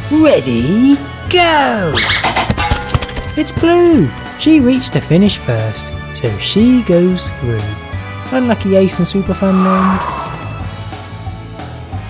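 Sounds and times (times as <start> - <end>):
background music with bass and drums: 0.0 - 12.0.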